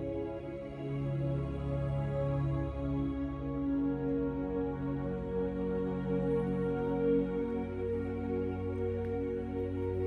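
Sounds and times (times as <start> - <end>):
soft ambient music: 0.0 - 10.0.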